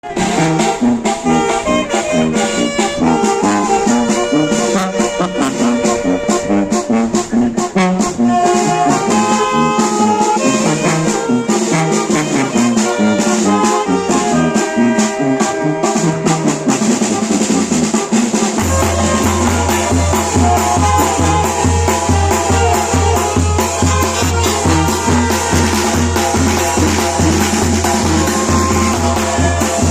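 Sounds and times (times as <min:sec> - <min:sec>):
drums: 0:00.0 - 0:29.9
heavy low beat: 0:00.0 - 0:29.9
trombones: 0:00.0 - 0:29.9
trumpets: 0:00.0 - 0:29.9.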